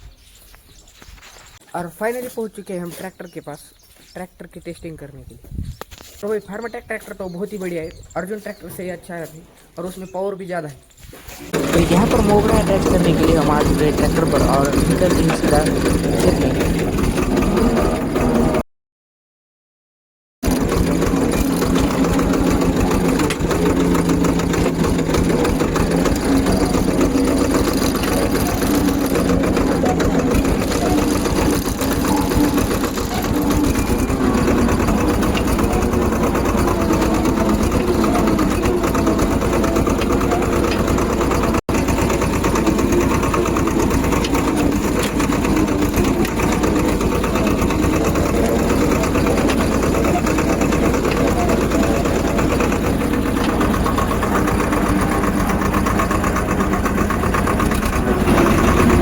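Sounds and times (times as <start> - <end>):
diesel tractor engine rattling: 1.8 - 10.3, 11.1 - 18.6, 20.4 - 59.0.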